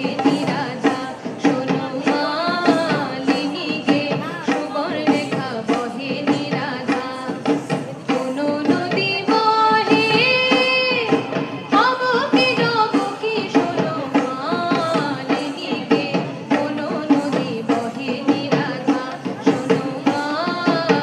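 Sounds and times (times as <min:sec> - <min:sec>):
barrel drum beating: 0:00.0 - 0:21.0.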